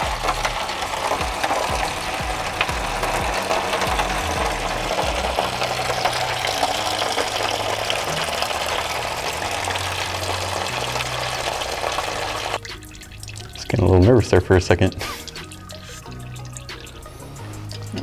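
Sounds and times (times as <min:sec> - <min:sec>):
liquid splashing into foil tray: 0:00.0 - 0:18.0.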